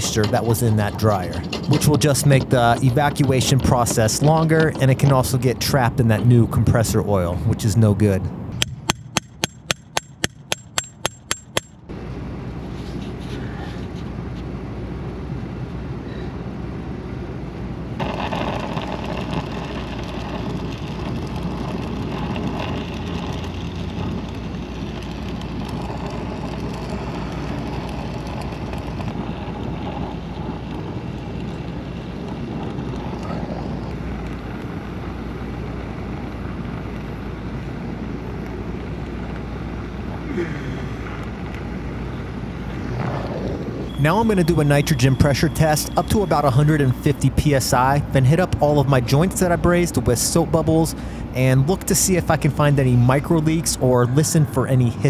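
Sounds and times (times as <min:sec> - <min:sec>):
brazing torch roaring: 0:00.0 - 0:08.6, 0:13.1 - 0:55.0.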